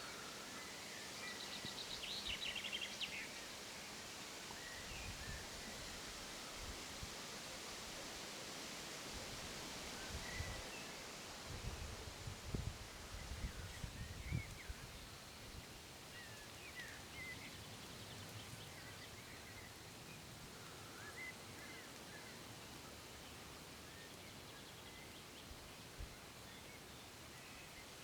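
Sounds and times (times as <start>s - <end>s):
outdoor hiss: 0.0s - 28.0s.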